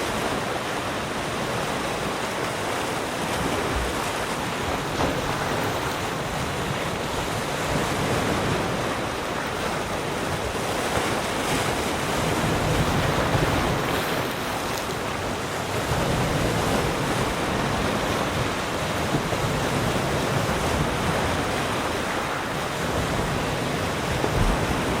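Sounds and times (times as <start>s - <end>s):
waves lapping around rocks: 0.0s - 25.0s
wind on microphone: 3.0s - 25.0s.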